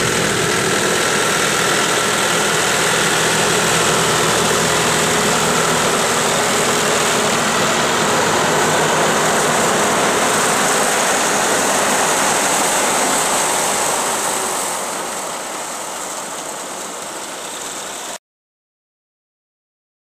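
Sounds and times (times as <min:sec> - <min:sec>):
tractor engine and mower blades: 0:00.0 - 0:18.2.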